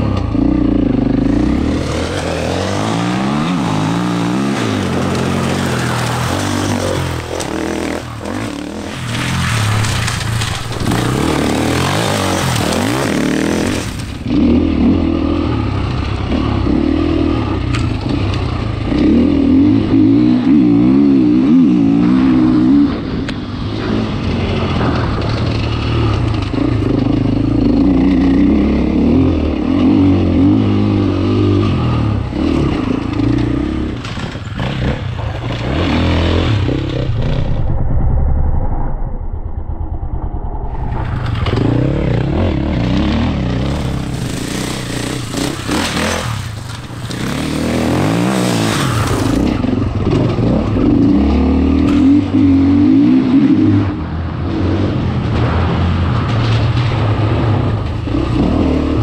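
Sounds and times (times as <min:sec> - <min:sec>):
motorcycle engine revving: 0:00.0 - 0:37.8, 0:40.2 - 0:59.0.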